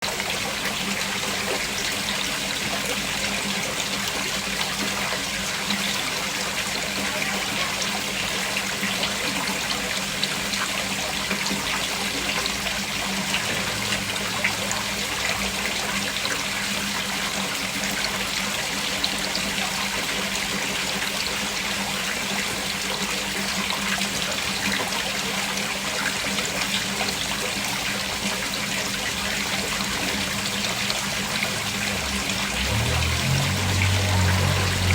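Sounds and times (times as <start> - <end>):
waterfall splashing into pool: 0.0 - 34.9.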